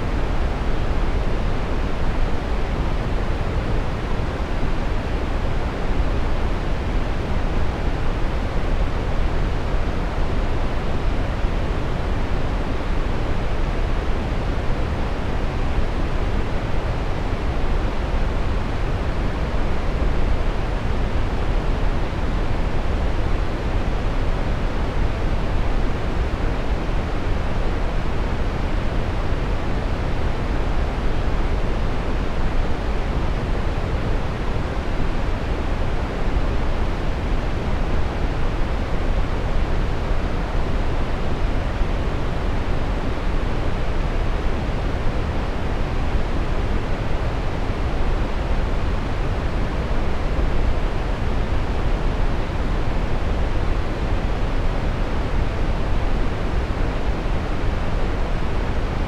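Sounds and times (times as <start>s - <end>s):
brown noise: 0.0s - 59.0s.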